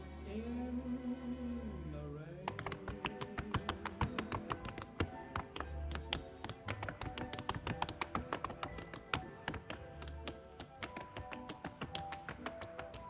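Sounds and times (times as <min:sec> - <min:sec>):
backing music: 0:00.0 - 0:13.0
tap shoes clicking on floor: 0:02.5 - 0:13.0.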